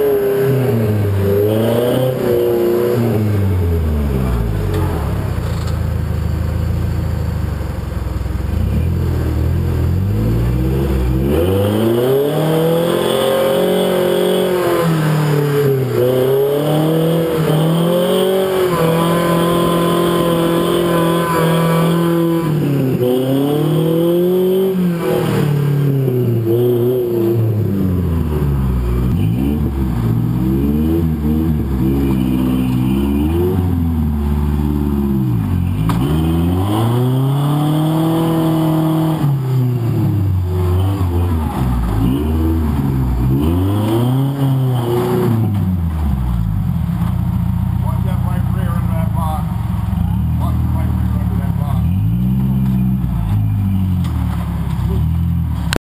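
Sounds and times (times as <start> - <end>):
buggy engine revving: 0.0 - 55.8.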